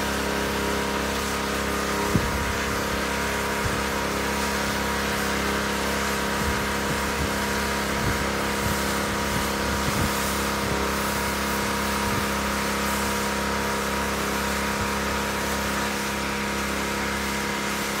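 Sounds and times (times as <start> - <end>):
motor humming steadily: 0.0 - 18.0
water spraying onto roof tiles: 0.0 - 18.0.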